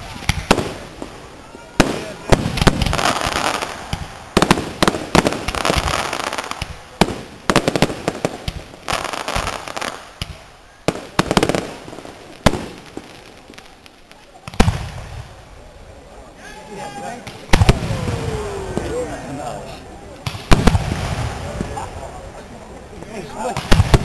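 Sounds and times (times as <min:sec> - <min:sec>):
fireworks bangs: 0:00.0 - 0:15.6, 0:16.9 - 0:22.3, 0:23.0 - 0:24.0
fireworks crackling: 0:00.0 - 0:24.0.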